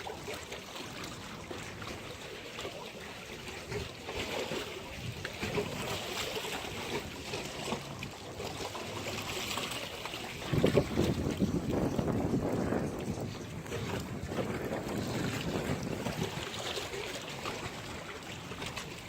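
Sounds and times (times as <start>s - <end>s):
water lapping at shore: 0.0s - 19.0s.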